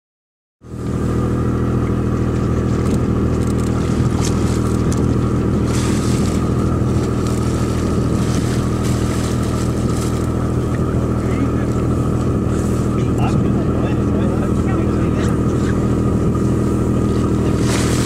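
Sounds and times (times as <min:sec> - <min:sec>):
boat engine drone: 0:00.6 - 0:18.0
wind: 0:00.6 - 0:18.0
water splashes: 0:00.8 - 0:18.0.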